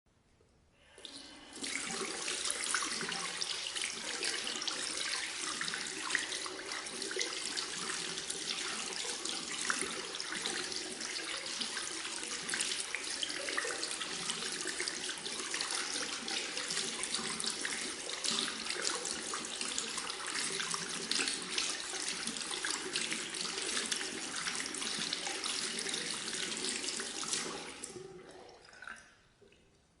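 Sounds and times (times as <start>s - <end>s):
hands washed under running tap: 1.3s - 28.0s.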